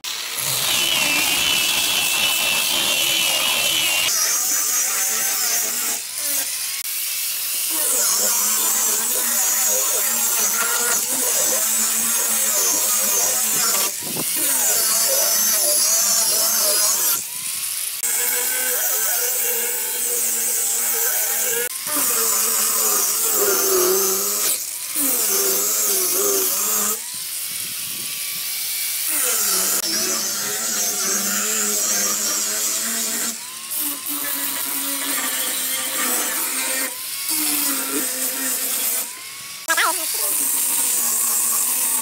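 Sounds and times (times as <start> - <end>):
angle grinder sanding wood: 0.0 - 42.0.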